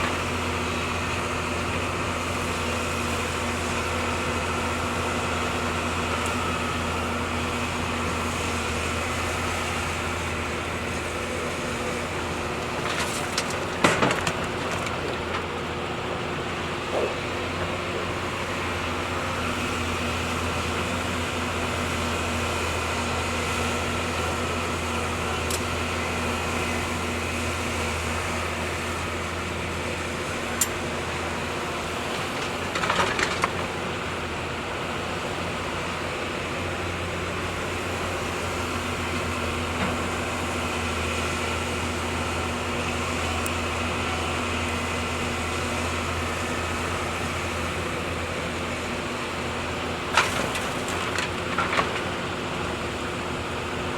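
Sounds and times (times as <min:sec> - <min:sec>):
excavator diesel engine droning: 0:00.0 - 0:53.9.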